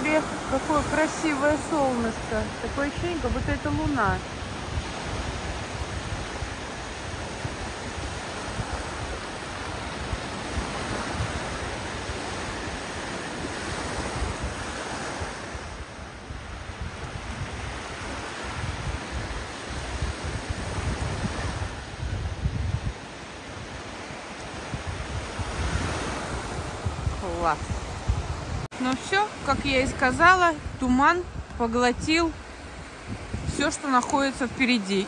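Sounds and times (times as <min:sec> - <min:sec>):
sea surf rushing on beach: 0:00.0 - 0:35.0
wind buffeting microphone: 0:00.0 - 0:35.0.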